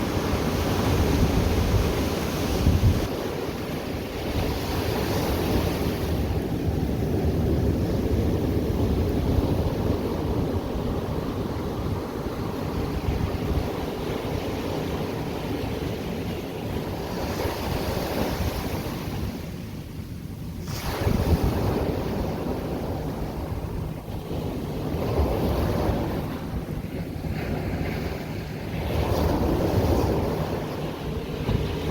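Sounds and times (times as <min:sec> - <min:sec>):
surf washing onto shore: 0:00.0 - 0:19.8, 0:20.6 - 0:31.9
wind on microphone: 0:00.0 - 0:19.8, 0:20.4 - 0:31.9.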